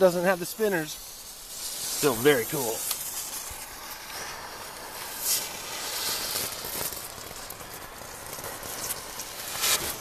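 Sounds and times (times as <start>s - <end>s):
firework boat hissing: 0.0s - 10.0s.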